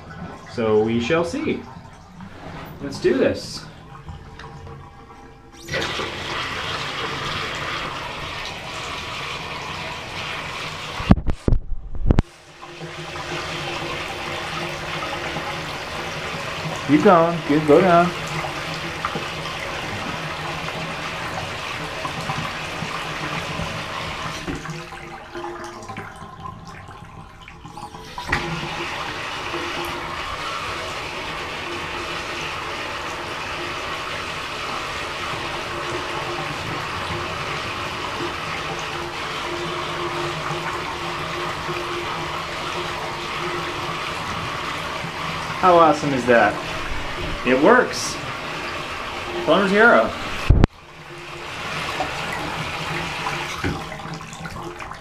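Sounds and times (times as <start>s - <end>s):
water running into bathtub: 0.0s - 55.0s.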